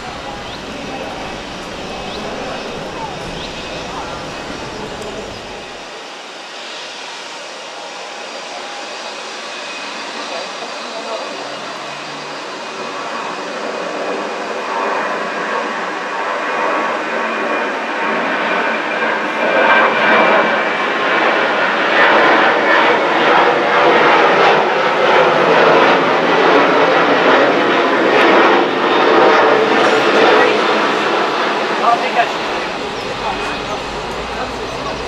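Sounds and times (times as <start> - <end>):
jet engines climbing overhead: 0.0 - 35.0.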